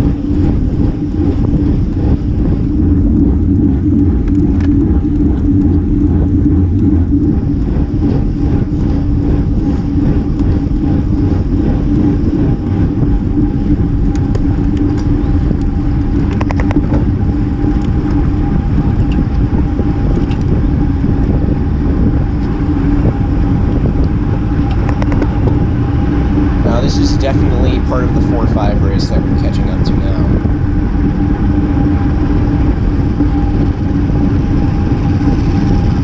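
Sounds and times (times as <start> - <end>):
road noise: 0.0 - 35.5
constant hum: 0.0 - 36.0
wind rushing: 0.0 - 36.0.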